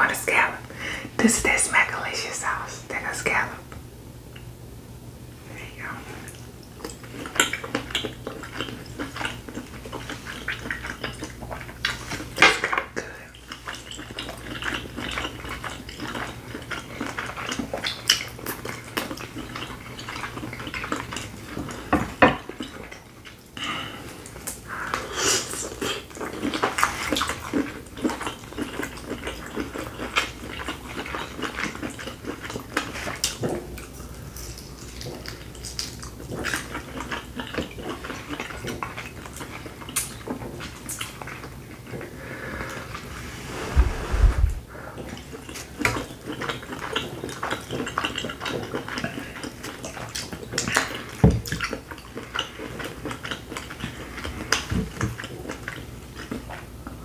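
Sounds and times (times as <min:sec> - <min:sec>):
wet chewing and smacking: 0:06.3 - 0:42.2, 0:45.0 - 0:57.0.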